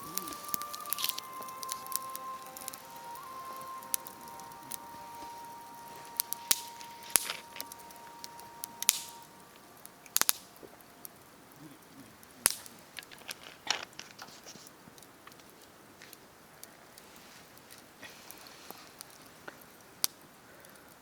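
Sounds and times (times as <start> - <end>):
fire hissing: 0.0 - 21.0
wood fire crackling and popping: 0.0 - 21.0.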